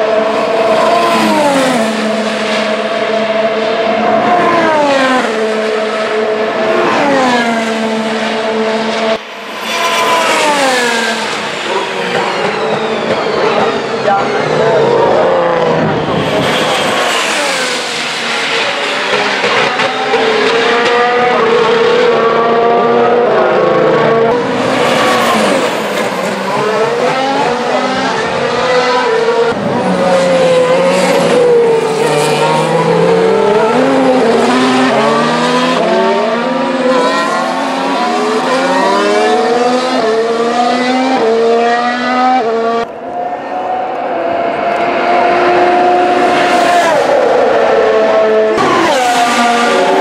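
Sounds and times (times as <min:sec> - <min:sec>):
racing cars passing: 0:00.0 - 0:50.0.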